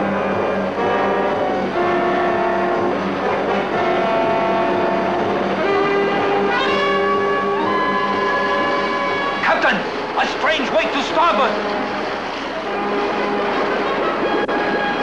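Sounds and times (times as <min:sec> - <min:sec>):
orchestral brass long notes: 0:00.0 - 0:10.1, 0:10.8 - 0:15.0.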